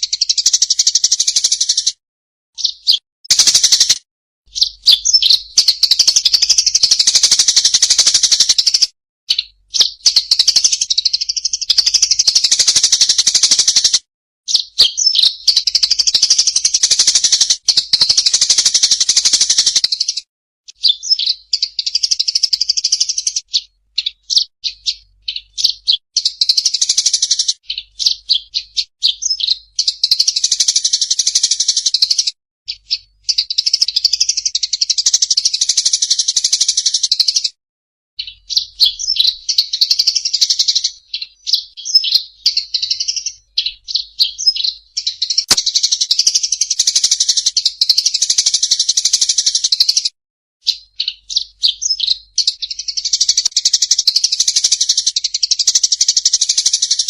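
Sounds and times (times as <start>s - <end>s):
songbird trilling: 2.6s - 37.4s, 38.2s - 50.0s, 50.6s - 57.0s
quick bird chirps: 2.6s - 37.5s, 38.2s - 55.4s.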